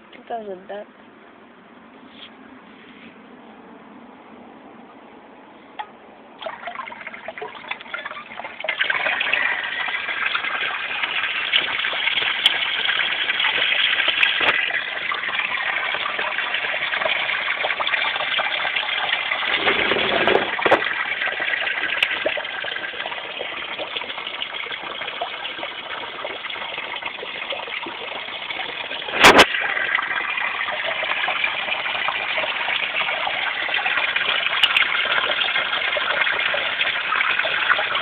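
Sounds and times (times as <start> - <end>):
water pouring into pond: 6.4 - 38.0.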